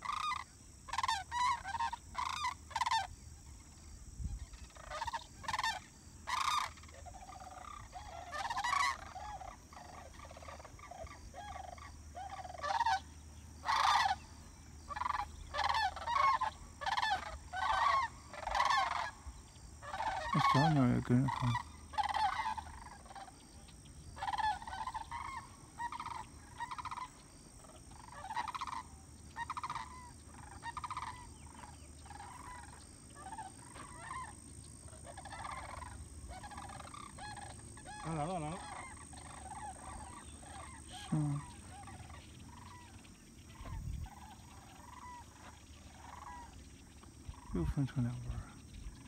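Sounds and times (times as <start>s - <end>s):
cranes calling: 0.0s - 49.0s.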